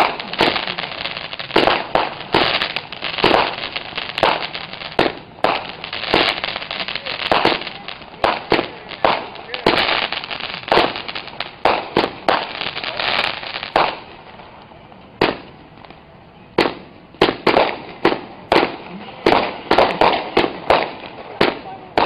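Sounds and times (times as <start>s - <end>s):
firework bangs: 0.0s - 22.0s.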